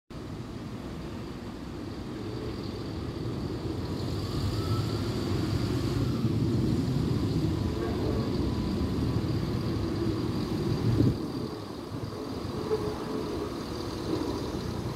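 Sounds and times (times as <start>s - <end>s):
diesel train engine rumble: 0.1s - 14.9s.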